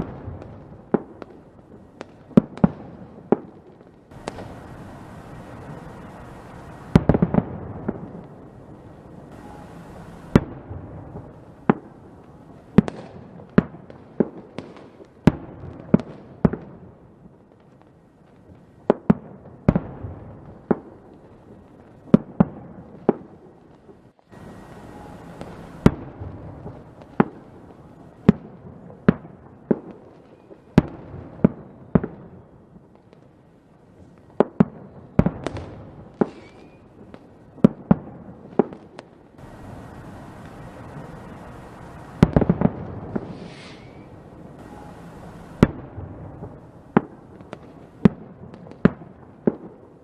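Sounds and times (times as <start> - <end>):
fireworks bangs: 0.0 - 33.4, 34.0 - 50.0
fireworks crackle: 0.0 - 50.0.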